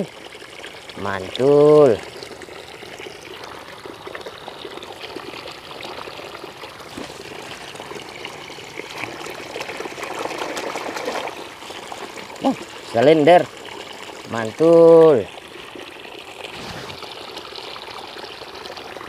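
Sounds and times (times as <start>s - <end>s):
water pouring into a basin: 0.0s - 19.0s.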